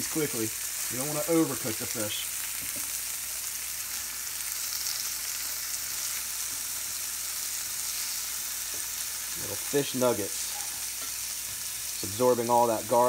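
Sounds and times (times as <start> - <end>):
fish sizzling in a skillet: 0.0 - 13.0.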